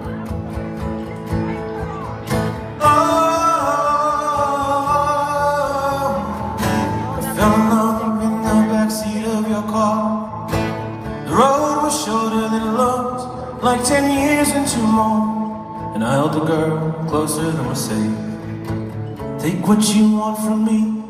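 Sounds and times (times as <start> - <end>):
acoustic guitar strumming: 0.0 - 21.0
man singing: 2.6 - 18.5, 19.3 - 21.0.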